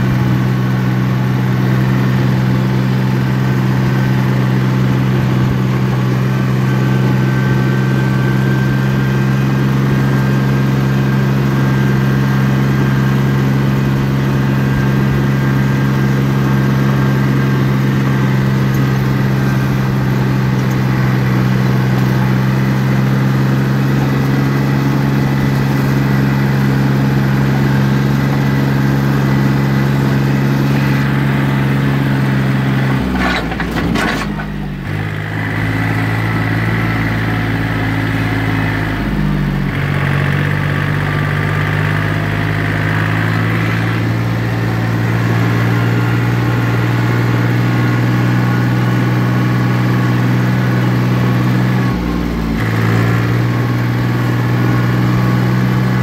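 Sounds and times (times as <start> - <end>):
engine clatter: 0.0 - 56.0
tractor diesel engine running: 0.0 - 56.0.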